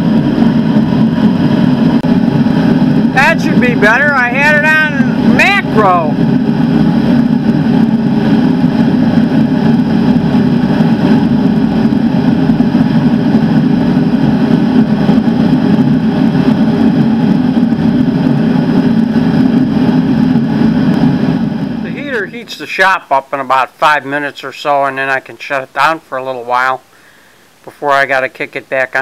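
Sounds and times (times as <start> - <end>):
shop heater blowing: 0.0 - 29.0.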